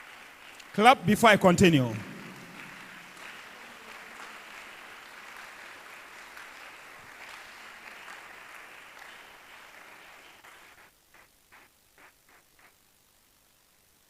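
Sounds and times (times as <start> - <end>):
congregation applauding: 0.0 - 12.7.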